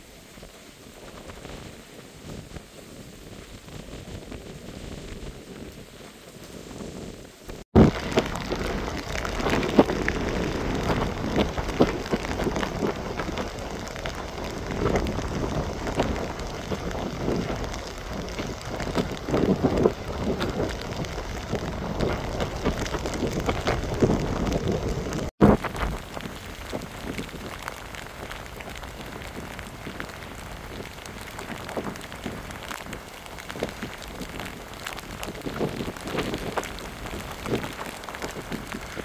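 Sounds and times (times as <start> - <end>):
choppy surge water: 0.0 - 39.0
wind buffeting microphone: 0.0 - 39.0.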